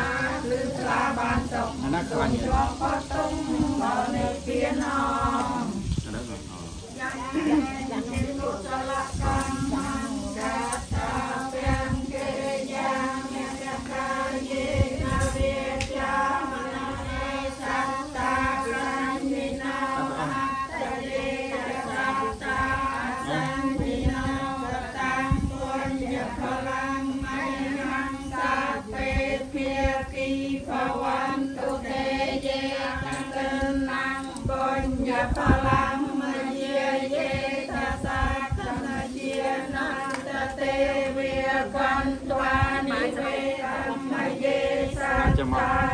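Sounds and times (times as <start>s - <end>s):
group chanting: 0.0s - 5.9s, 6.8s - 45.9s.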